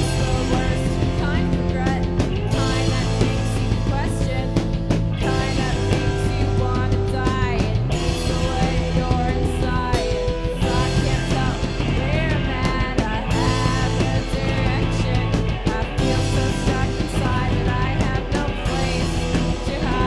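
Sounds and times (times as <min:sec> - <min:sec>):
bass guitar: 0:00.0 - 0:20.0
electric guitar: 0:00.0 - 0:20.0
rock band playing live: 0:00.0 - 0:20.0.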